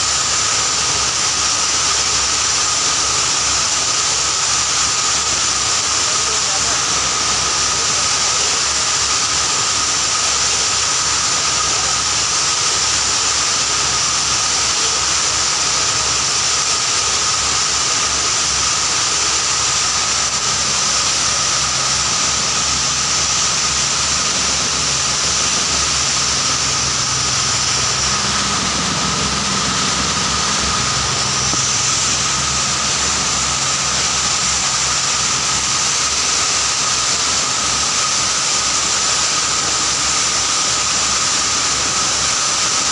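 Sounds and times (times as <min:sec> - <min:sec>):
grinder running with high whine: 0:00.0 - 0:42.9.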